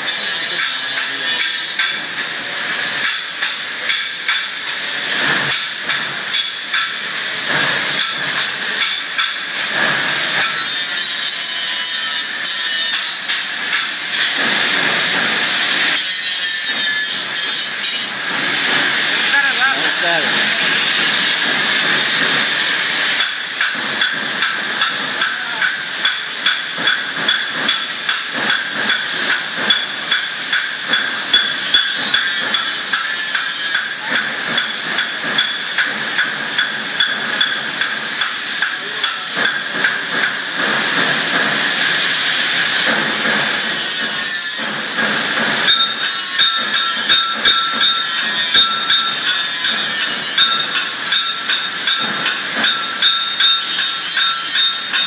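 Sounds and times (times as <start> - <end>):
spot welder firing: 0.1 - 55.0.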